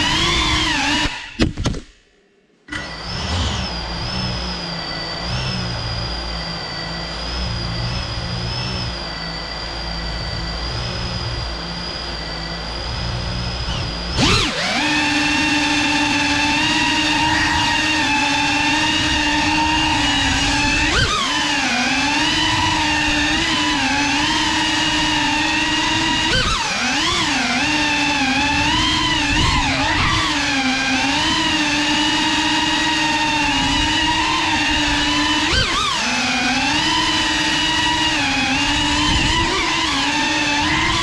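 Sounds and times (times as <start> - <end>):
drone motors and propellers whining: 0.0 - 41.0.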